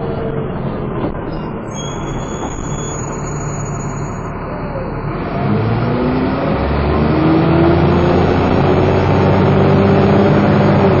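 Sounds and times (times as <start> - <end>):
bus engine accelerating with whine: 0.0 - 11.0
deep drone: 0.0 - 11.0.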